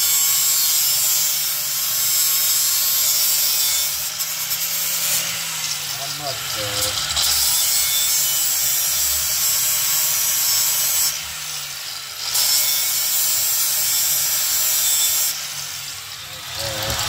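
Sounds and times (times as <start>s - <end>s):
power tool working metal: 0.0s - 17.0s.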